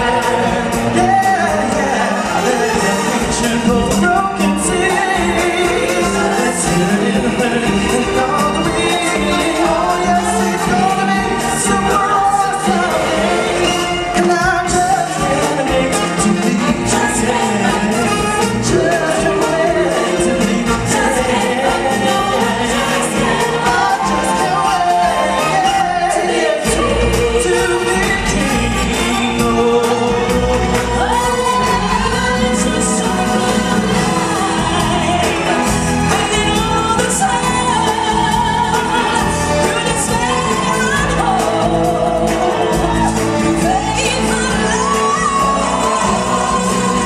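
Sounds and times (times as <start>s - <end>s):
musical backing: 0.0s - 47.0s
singers singing lively song: 0.0s - 47.0s.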